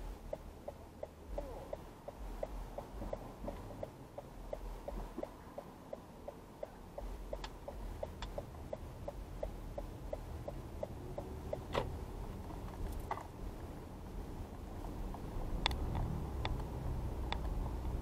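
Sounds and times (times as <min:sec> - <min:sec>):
turn signal clicking: 0:00.0 - 0:13.4, 0:15.1 - 0:18.0
low engine and road rumble: 0:00.0 - 0:18.0.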